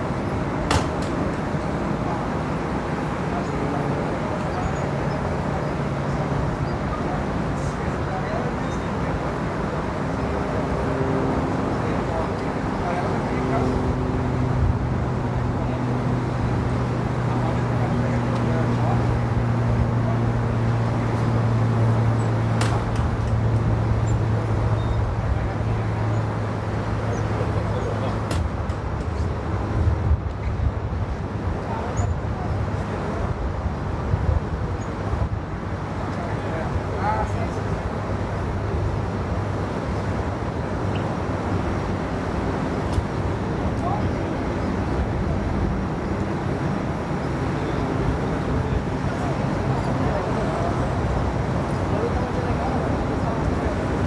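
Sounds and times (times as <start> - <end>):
aircraft engines rumbling: 0.0 - 54.0.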